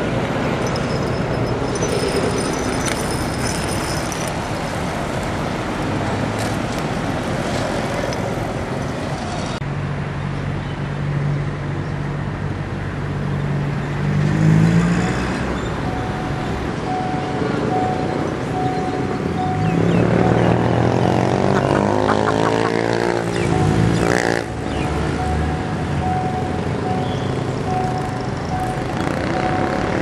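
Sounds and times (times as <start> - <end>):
passing vehicles: 0.0 - 30.0
vehicle engine hum: 0.0 - 30.0.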